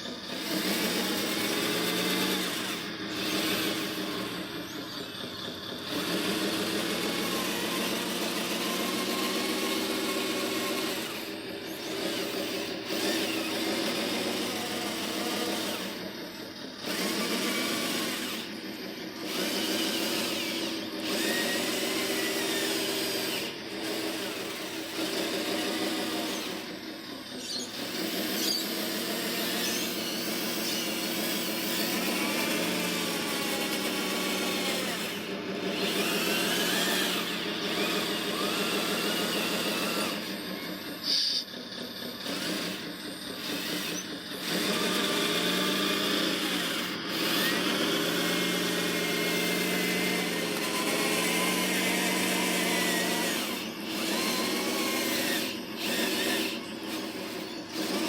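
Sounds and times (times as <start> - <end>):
small electric motors whining: 0.0 - 58.0.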